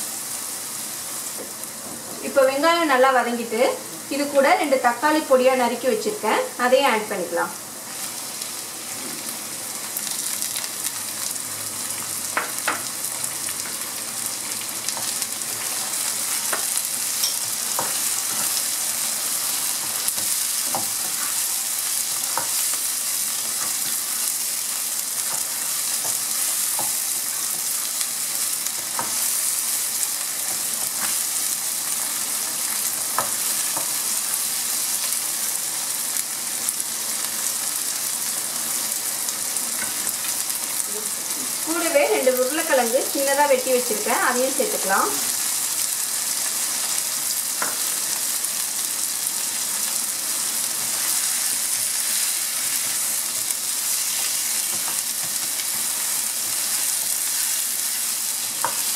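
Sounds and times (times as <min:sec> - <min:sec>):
vegetables sizzling in oil: 0:00.0 - 0:58.9.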